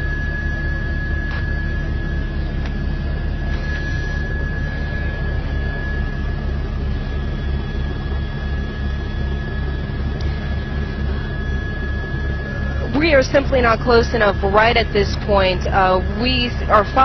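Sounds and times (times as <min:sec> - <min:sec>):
helicopter rotor rumble: 0:00.0 - 0:17.0
high engine whine: 0:00.0 - 0:17.0.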